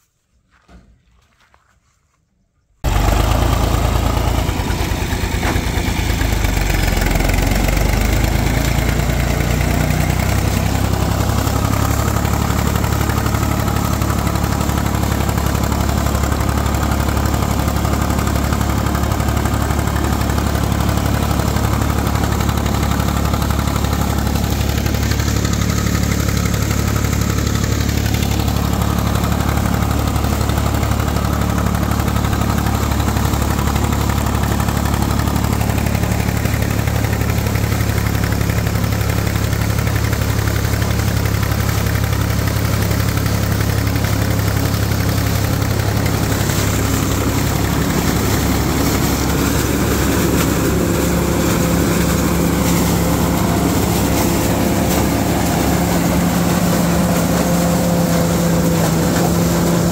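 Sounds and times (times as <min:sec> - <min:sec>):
corn picker running through maize: 0:02.8 - 0:59.9
tractor diesel engine running: 0:02.8 - 0:59.9.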